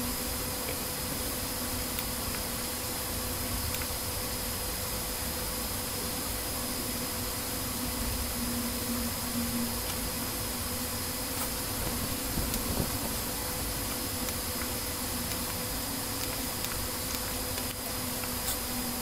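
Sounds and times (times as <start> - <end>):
hiss: 0.0 - 19.0
steady buzzing hum: 0.0 - 19.0.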